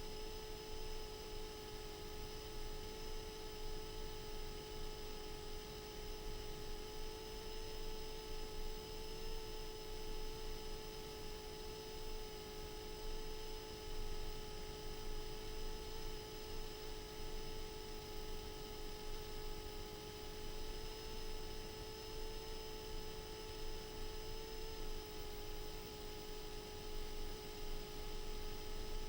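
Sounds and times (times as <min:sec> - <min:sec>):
electronic hum and whine: 0:00.0 - 0:29.0.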